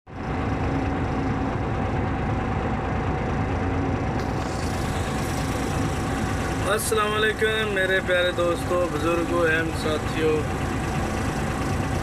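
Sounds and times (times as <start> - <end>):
diesel machinery engine drone: 0.1 - 12.0.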